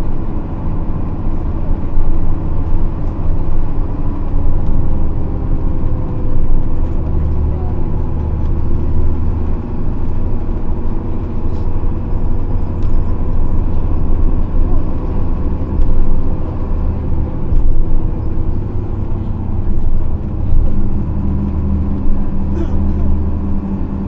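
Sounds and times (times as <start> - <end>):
diesel bus engine droning: 0.0 - 24.0.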